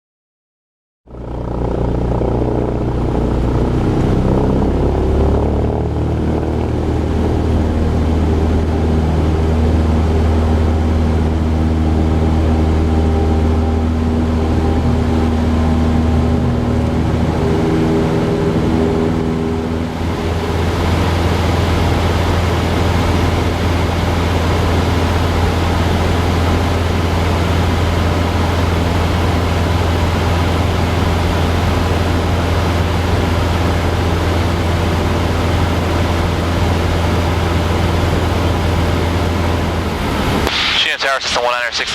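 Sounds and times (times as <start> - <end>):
airplane engine and propeller droning: 1.1 - 41.9.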